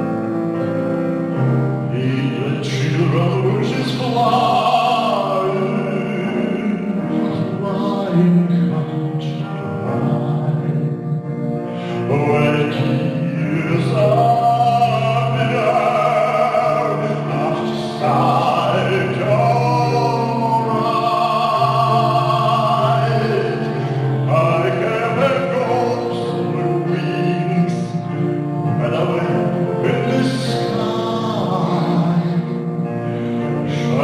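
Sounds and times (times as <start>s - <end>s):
baritone singing: 0.0s - 34.0s
piano accompaniment: 0.0s - 34.0s.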